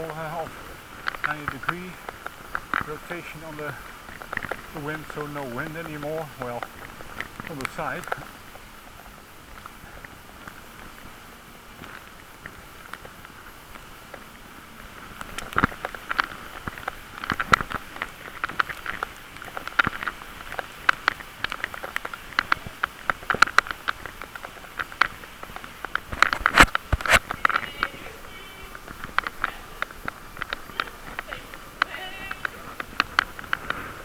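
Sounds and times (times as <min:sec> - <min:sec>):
bicycle clicking and rattling: 0:00.0 - 0:34.0
steady hiss: 0:00.0 - 0:34.0.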